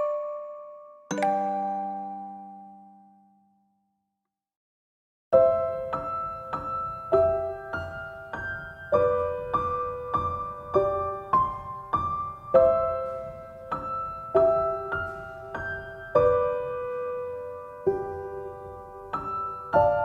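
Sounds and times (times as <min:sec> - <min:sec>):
slow keyboard melody: 0:00.0 - 0:03.6, 0:05.4 - 0:20.0.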